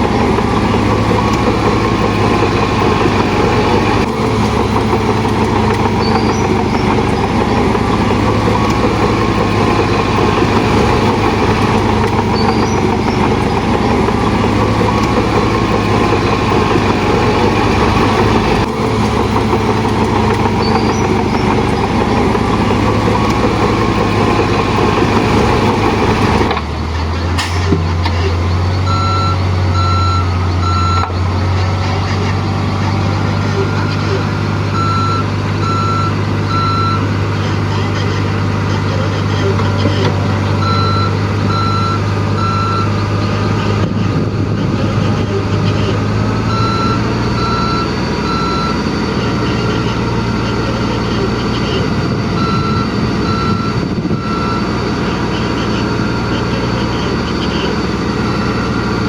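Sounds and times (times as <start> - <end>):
diesel earthmoving machinery running: 0.0 - 59.0
reversing alarm beeping: 0.0 - 59.0.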